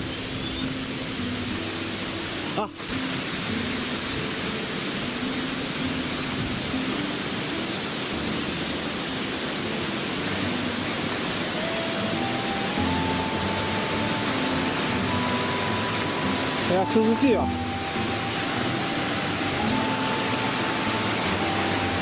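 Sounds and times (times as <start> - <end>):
soft background music: 0.0 - 22.0
waterfall rushing: 0.0 - 22.0.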